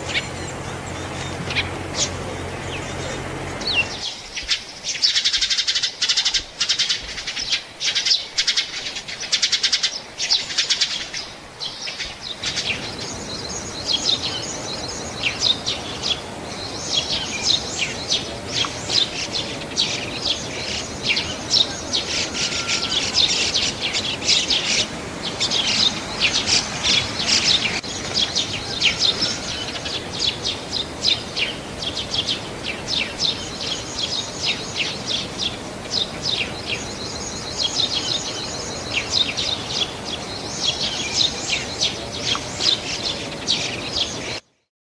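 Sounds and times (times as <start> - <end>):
sparrows chirping: 0.0 - 44.4.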